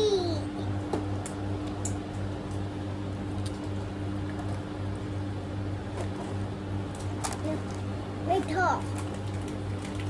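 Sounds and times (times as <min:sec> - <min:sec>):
electric fan motor hum: 0:00.0 - 0:10.0.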